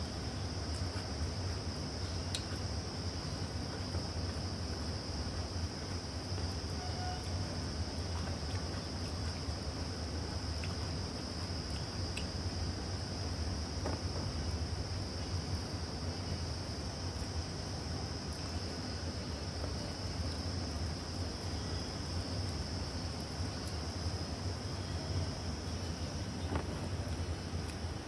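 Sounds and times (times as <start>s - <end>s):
crickets chirring: 0.0s - 28.0s
steady low hum: 0.0s - 28.0s.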